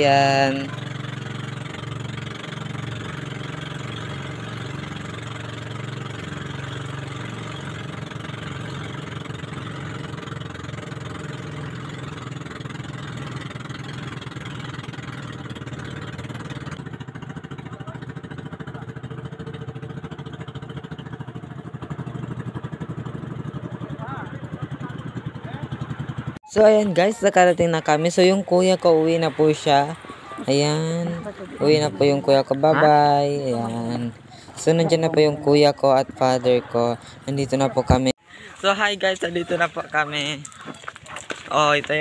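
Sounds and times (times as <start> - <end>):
motorboat engine running: 0.0 - 42.0.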